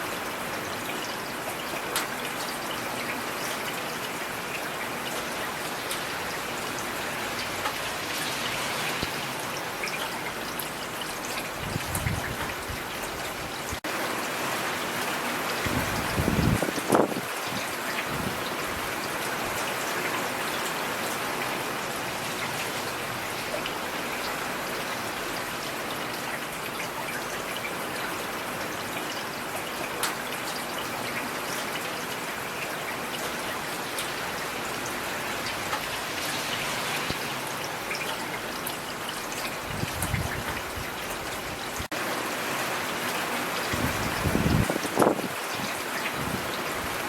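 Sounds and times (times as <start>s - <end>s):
steady rain falling: 0.0s - 47.0s
raindrops ticking on a surface: 0.2s - 13.9s, 15.0s - 42.0s.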